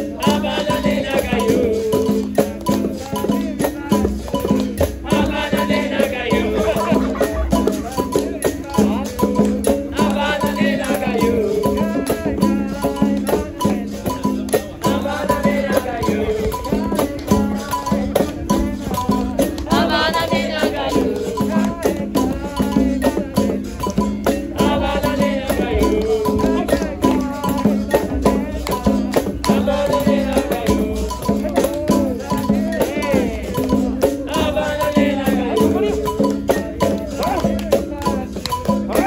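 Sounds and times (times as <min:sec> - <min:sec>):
hand percussion: 0:00.0 - 0:39.0
shaken rattle: 0:00.0 - 0:39.0
voices singing: 0:00.0 - 0:39.0.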